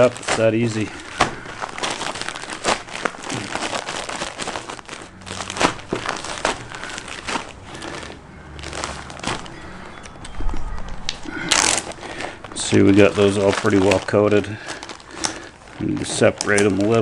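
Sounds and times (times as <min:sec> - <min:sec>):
bag of breading rustling: 0:00.0 - 0:17.0.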